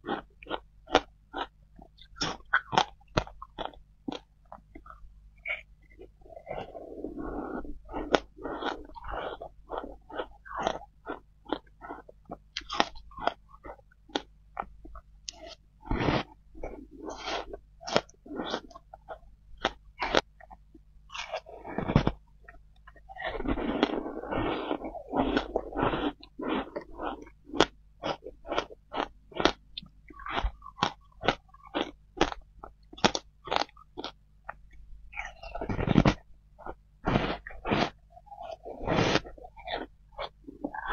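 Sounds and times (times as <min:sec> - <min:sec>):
crunching and chewing shaved ice: 0:00.0 - 0:40.9.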